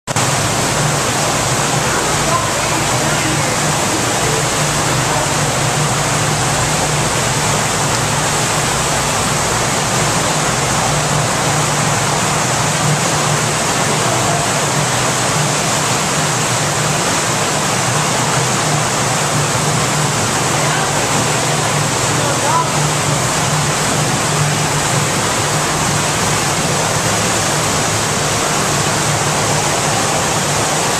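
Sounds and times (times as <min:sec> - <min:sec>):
flowing water rushing: 0:00.1 - 0:30.9.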